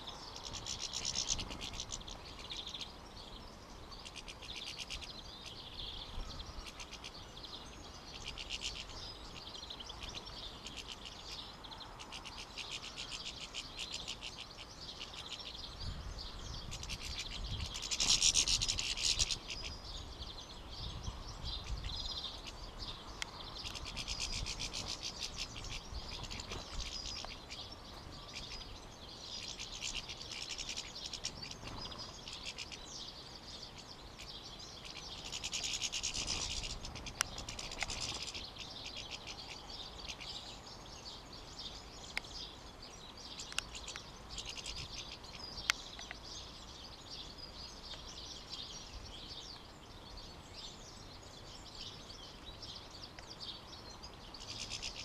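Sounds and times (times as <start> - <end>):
goldfinches twittering: 0.0 - 55.0.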